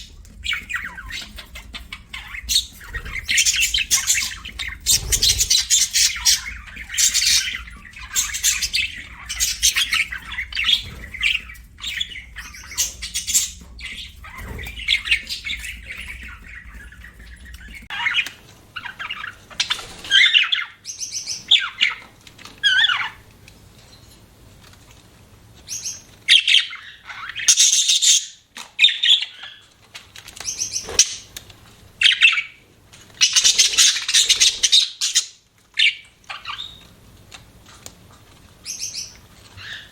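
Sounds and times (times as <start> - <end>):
budgerigars chirping: 0.0 - 23.2, 25.7 - 29.6, 30.4 - 31.4, 32.0 - 32.6, 33.2 - 36.9, 38.6 - 39.9.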